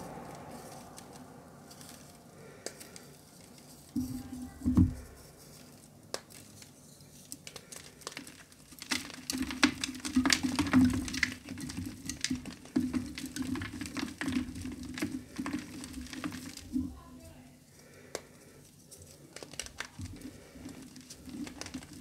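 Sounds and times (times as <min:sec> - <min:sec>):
chalk crumbling by hand: 0:00.0 - 0:22.0.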